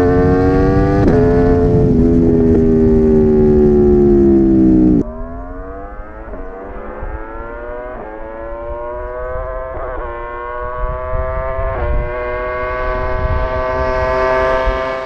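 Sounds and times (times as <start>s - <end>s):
motorcycle engine approaching: 0.0s - 15.0s.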